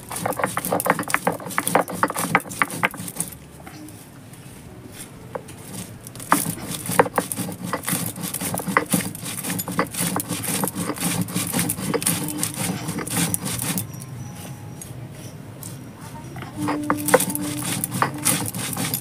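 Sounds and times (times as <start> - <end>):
stone roller grinding spices: 0.0 - 19.0.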